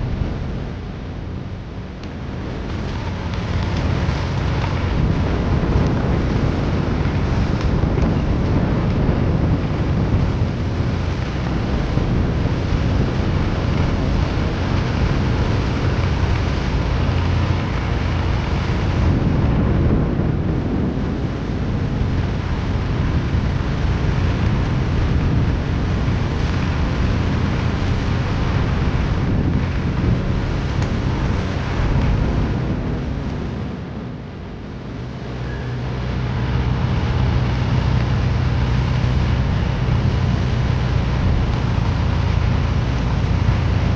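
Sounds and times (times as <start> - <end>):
tractor engine: 0.0 - 43.9
wind buffeting microphone: 0.0 - 43.9.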